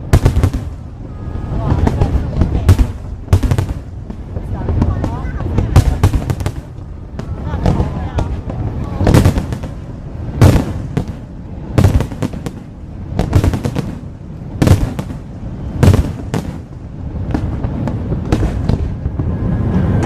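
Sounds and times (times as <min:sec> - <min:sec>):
fireworks bursting with bangs: 0:00.0 - 0:20.0
low rumble and echo: 0:00.0 - 0:20.0.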